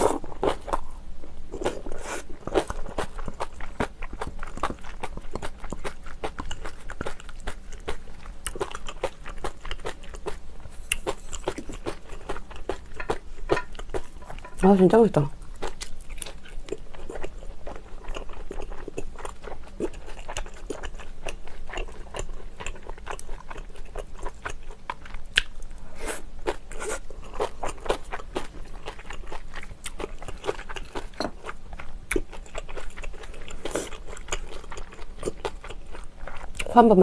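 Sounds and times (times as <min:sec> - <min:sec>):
person chewing crunchy food: 0:00.0 - 0:14.6, 0:15.4 - 0:36.7.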